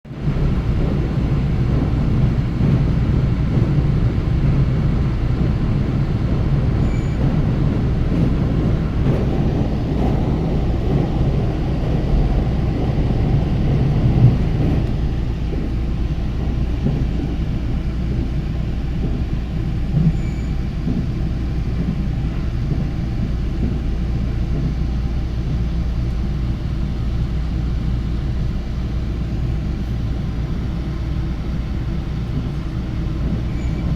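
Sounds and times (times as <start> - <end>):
train rumbling on track: 0.1 - 33.9.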